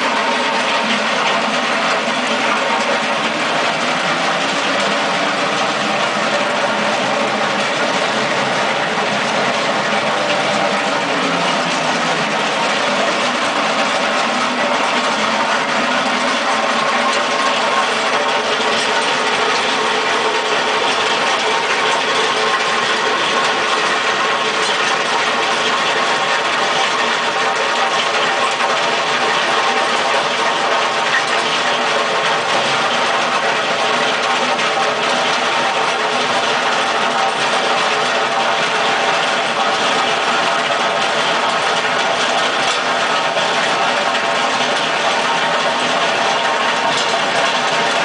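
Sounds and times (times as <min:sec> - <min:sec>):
cutting wheel grinding concrete: 0:00.0 - 0:48.0.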